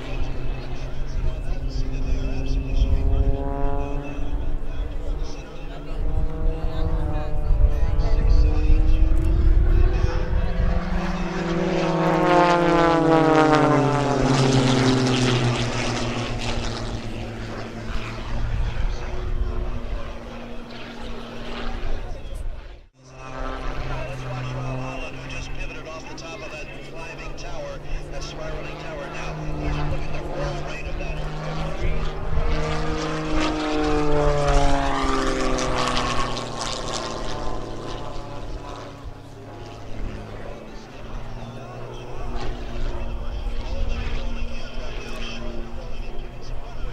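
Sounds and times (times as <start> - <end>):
propeller plane passing low: 0.0 - 46.9.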